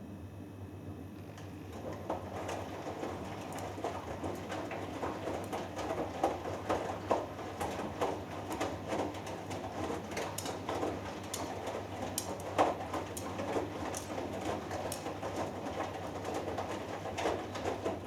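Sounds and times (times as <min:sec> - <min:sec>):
washing machine motor hum: 0:00.0 - 0:18.0
laundry sloshing in drum: 0:01.4 - 0:18.0.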